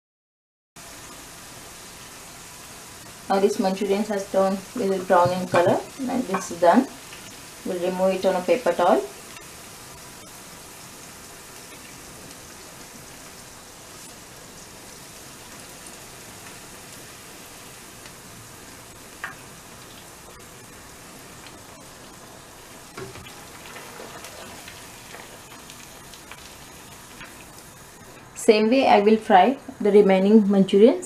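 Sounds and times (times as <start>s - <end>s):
food sizzling in hot oil: 0.8s - 30.7s.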